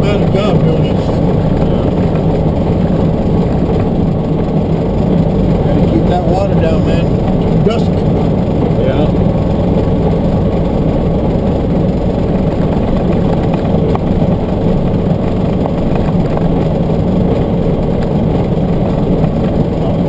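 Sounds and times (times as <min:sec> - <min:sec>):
vehicle engine and tyre noise: 0:00.0 - 0:20.0.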